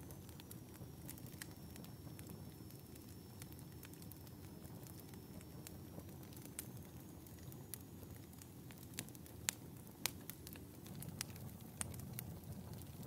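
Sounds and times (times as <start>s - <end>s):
fire crackling and popping: 0.0s - 13.0s
fire flames rumbling: 0.0s - 13.0s.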